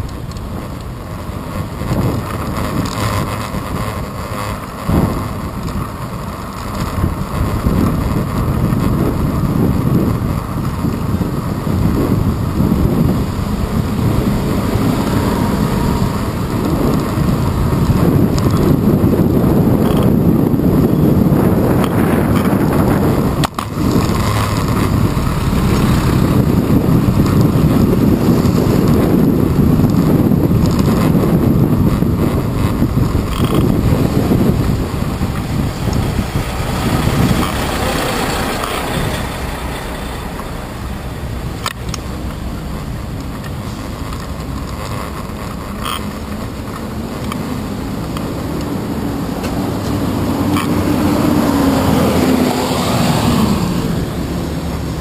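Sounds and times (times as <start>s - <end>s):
city road and traffic noise: 0.0s - 55.0s
wind buffeting microphone: 0.0s - 55.0s.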